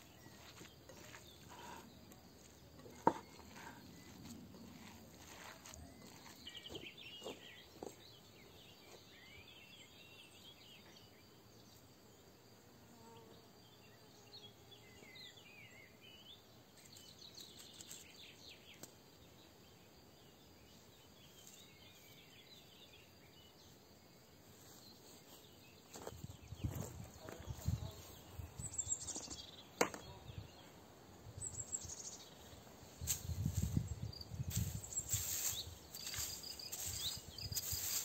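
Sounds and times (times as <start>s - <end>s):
small birds chirping: 0.0s - 11.9s, 13.8s - 23.9s, 24.5s - 38.0s.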